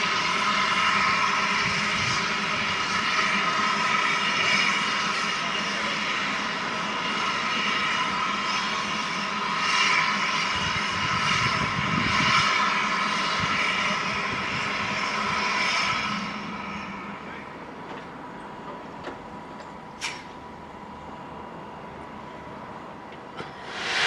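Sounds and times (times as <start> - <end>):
steam locomotive roaring: 0.0 - 24.0.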